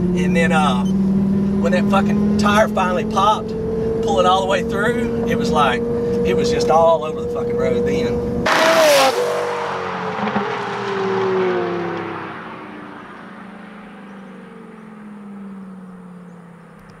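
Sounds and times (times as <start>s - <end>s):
sports car engine passing: 0.0s - 17.0s.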